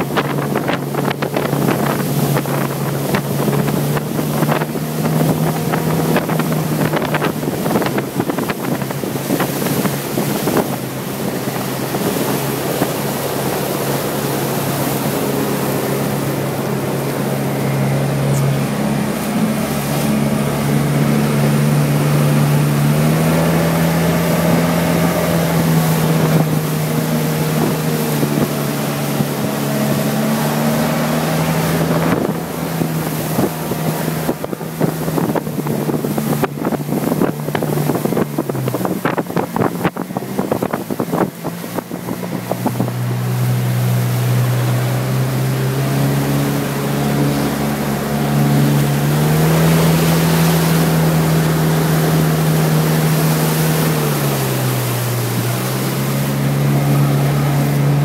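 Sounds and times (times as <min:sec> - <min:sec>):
motorboat engine drone: 0:00.0 - 0:58.0
rushing water: 0:00.0 - 0:58.0
wind buffeting microphone: 0:00.0 - 0:58.0.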